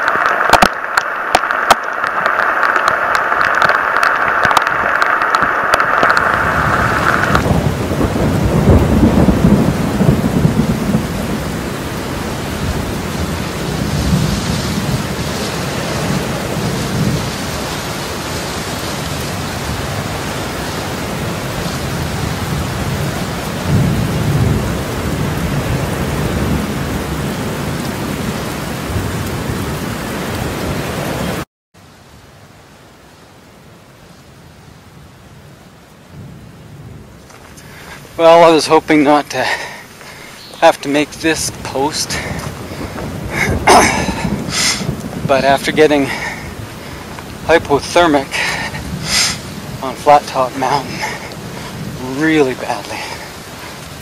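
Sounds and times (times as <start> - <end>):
thunder rolling: 0.0 - 31.4, 36.2 - 54.0
heavy rain: 0.0 - 54.0.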